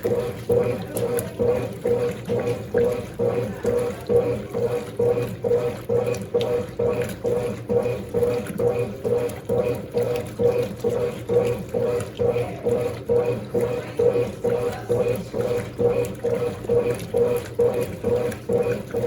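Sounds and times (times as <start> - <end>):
washing machine motor hum: 0.0 - 19.0
washing machine water sloshing: 0.0 - 19.0.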